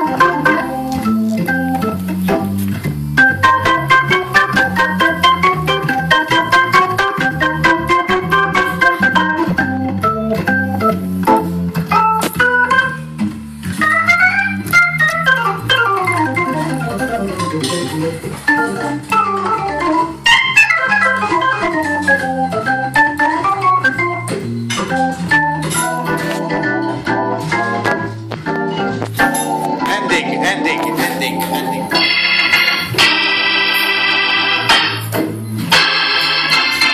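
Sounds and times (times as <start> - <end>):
jazz-blues organ solo: 0.0 - 36.9.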